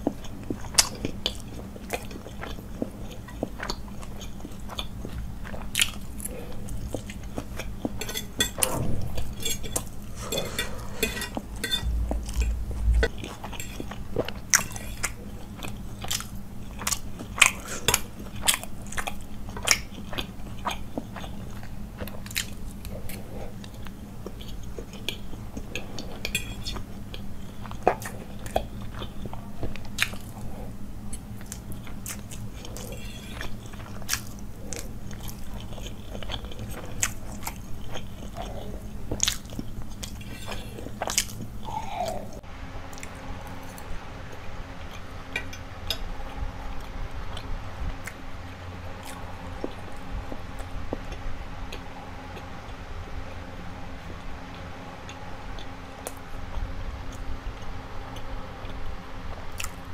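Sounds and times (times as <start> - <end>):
person chewing food: 0.0 - 52.7, 54.5 - 59.9.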